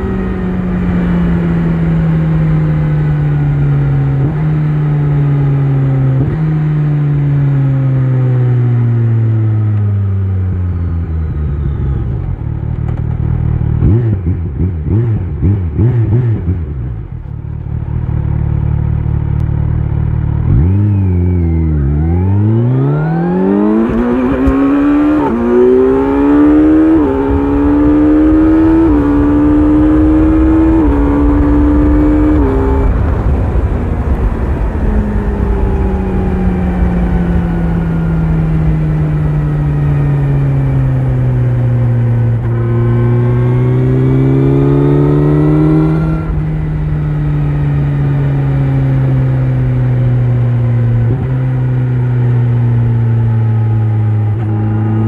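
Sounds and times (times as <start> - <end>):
motorcycle accelerating through gears: 0.0 - 55.0.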